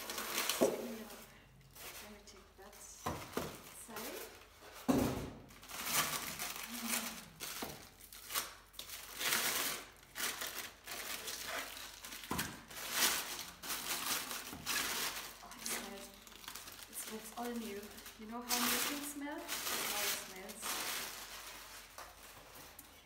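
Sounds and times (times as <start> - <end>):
plastic wrapping crinkling: 0.0 - 23.0.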